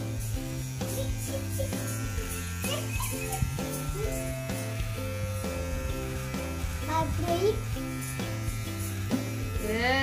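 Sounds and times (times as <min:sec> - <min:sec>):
background music: 0:00.0 - 0:10.0
electric hair trimmer buzzing: 0:00.0 - 0:10.0.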